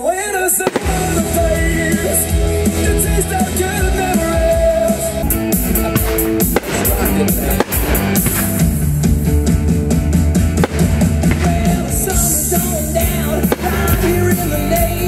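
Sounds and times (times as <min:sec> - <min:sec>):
song with guitar and drums: 0:00.6 - 0:15.0.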